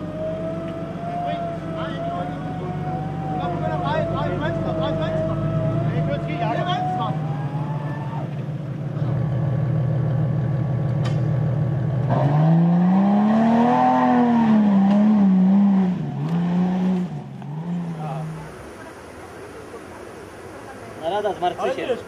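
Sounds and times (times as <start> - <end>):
engine running and revving: 0.0 - 18.7.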